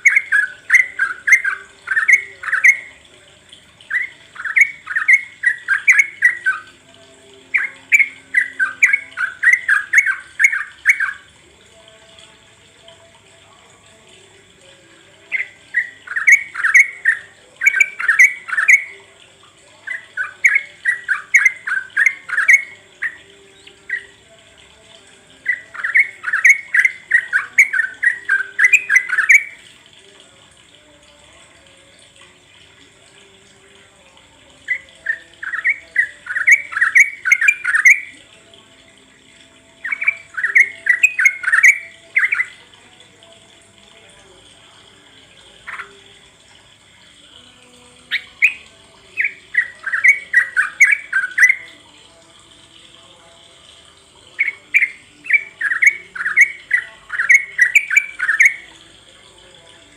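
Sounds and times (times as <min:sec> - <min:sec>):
bulbul chattering song: 0:00.0 - 0:59.9.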